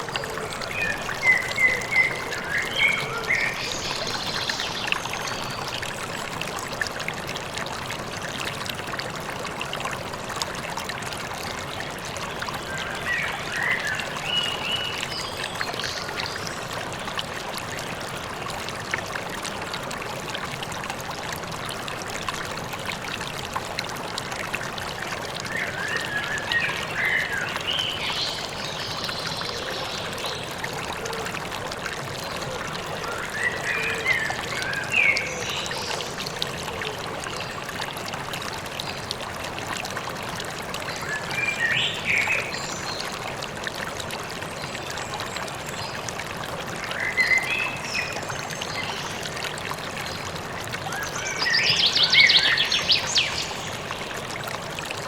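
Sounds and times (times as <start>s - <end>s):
stream trickling and gurgling: 0.0s - 55.0s.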